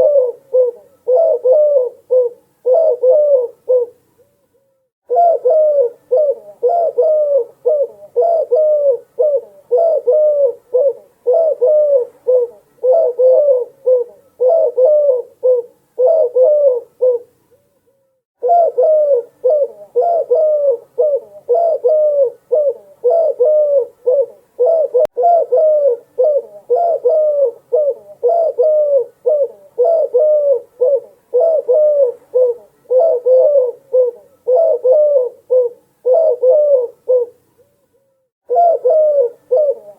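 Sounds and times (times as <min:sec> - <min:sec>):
dove cooing: 0:00.0 - 0:04.1, 0:05.1 - 0:17.4, 0:18.4 - 0:37.5, 0:38.4 - 0:39.9.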